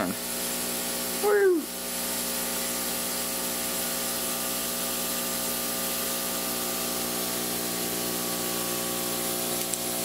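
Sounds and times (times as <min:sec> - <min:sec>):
laser cutter hiss and hum: 0:00.0 - 0:10.0.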